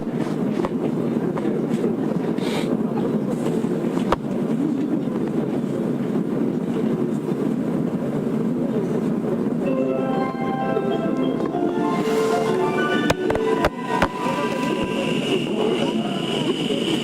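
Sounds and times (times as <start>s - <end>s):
low rumble inside subway car: 0.0s - 17.0s.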